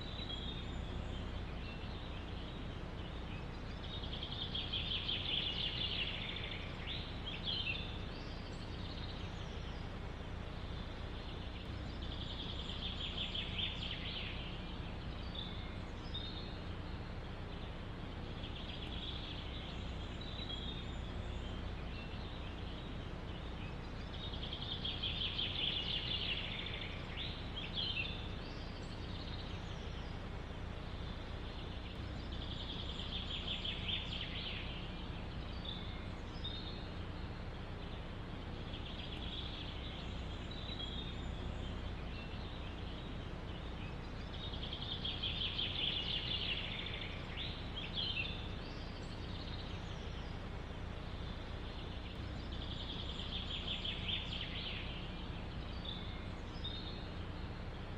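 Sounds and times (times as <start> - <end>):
wind in forest: 0.0 - 57.9
songbird trilling: 10.5 - 57.8.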